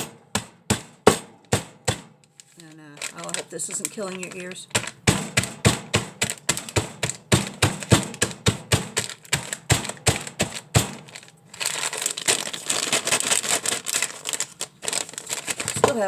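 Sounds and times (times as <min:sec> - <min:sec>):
sharp repeated knocks: 0:00.0 - 0:02.2, 0:04.3 - 0:15.0
crinkling and rustling: 0:02.2 - 0:16.0.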